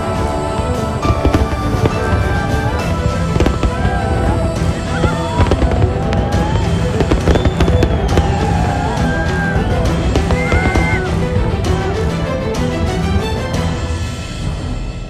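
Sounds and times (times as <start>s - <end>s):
fireworks bursting and crackling: 0.0s - 12.2s
loud music: 0.0s - 15.0s.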